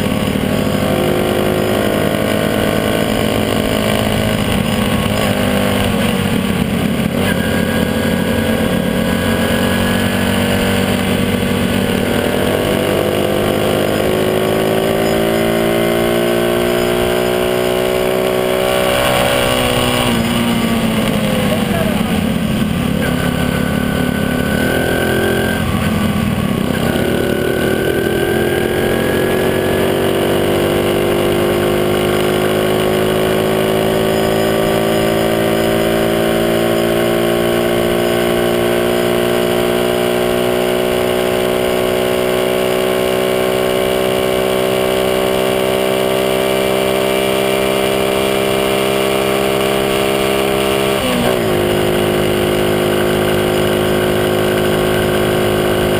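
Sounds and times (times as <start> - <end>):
motorcycle engine accelerating: 0.0 - 55.9
road and wind noise: 0.0 - 55.9.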